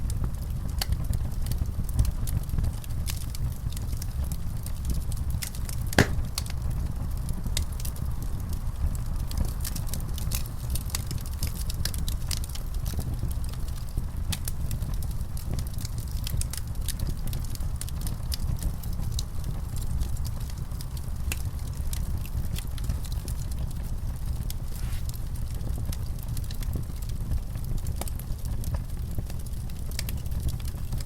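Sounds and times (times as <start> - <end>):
low rumble of fire: 0.0 - 31.0
wood fire crackling and popping: 0.1 - 31.0.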